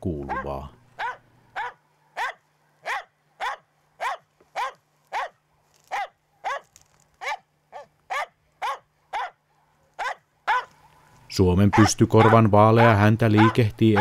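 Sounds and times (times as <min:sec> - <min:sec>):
dog barking sharply: 0:00.3 - 0:06.6, 0:07.2 - 0:09.4, 0:10.0 - 0:10.7, 0:11.7 - 0:14.0.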